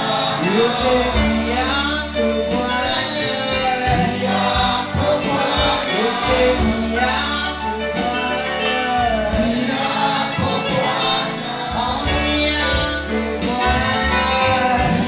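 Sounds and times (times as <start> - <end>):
electronic keyboards: 0.0 - 15.0
voices singing gospel: 0.0 - 15.0.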